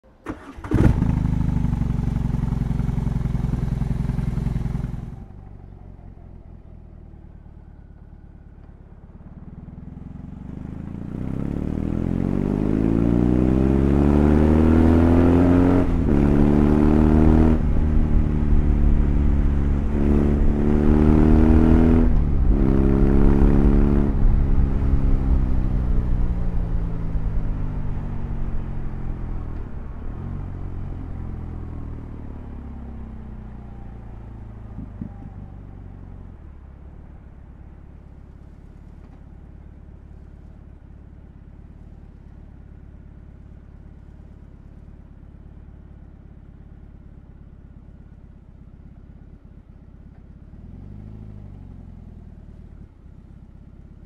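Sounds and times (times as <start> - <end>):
motorcycle engine accelerating: 0.2 - 54.0.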